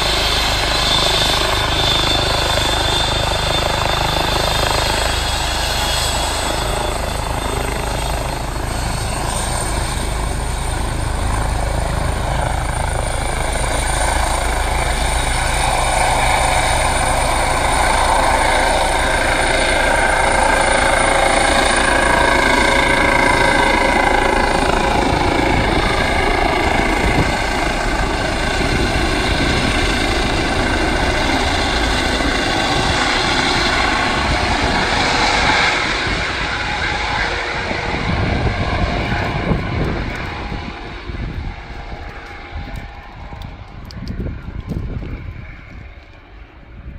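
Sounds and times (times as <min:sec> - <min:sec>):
helicopter turbine and rotor noise: 0:00.0 - 0:46.9.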